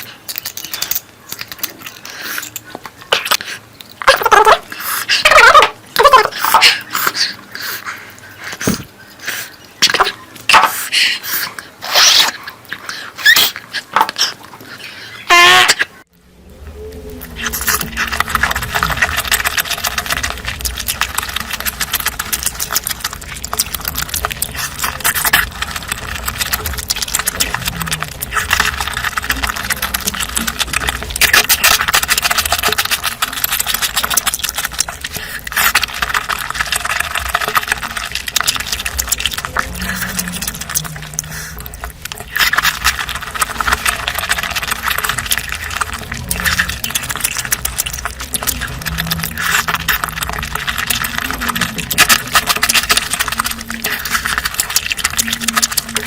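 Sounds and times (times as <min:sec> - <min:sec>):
person chewing: 0:00.0 - 0:16.0, 0:16.8 - 0:56.0.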